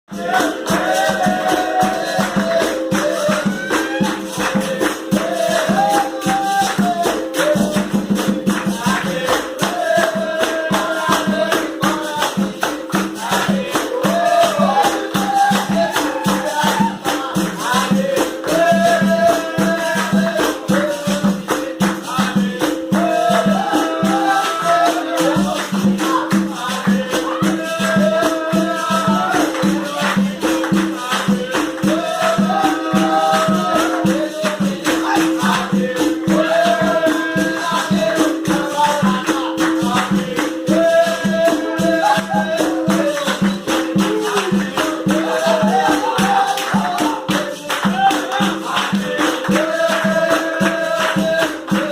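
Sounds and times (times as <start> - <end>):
person singing: 0.1 - 51.9.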